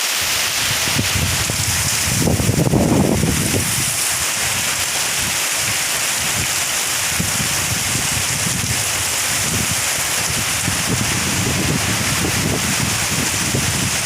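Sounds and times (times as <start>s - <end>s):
heavy rain pouring: 0.0s - 14.0s
wind buffeting microphone: 0.6s - 14.0s.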